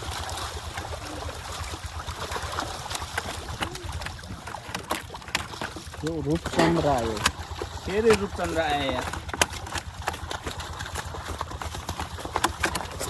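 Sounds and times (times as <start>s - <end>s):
fish slapping water: 0.0s - 13.0s
water splashing and sloshing: 0.0s - 13.0s.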